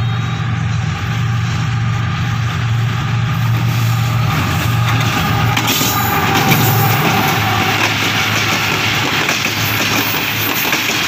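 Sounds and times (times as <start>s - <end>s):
diesel locomotive engine drone: 0.0s - 11.0s
train wheels rushing and clattering: 0.0s - 11.0s.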